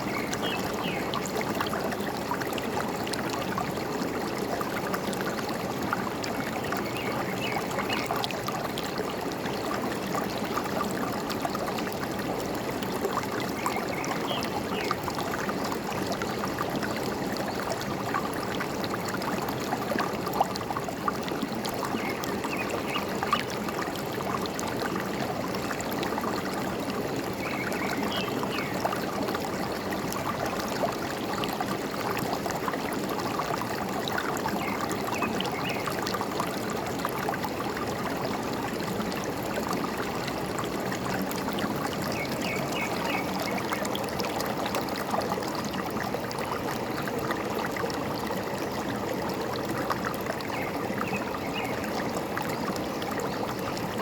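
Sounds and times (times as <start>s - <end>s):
stream water over rocks: 0.0s - 54.0s.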